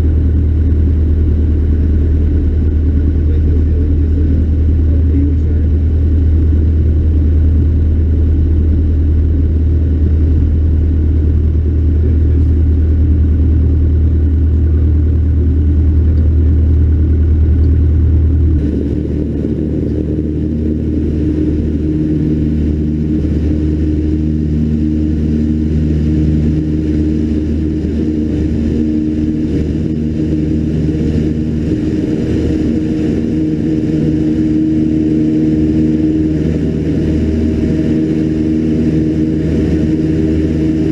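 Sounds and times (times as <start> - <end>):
plane engine and propeller droning: 0.0 - 40.9.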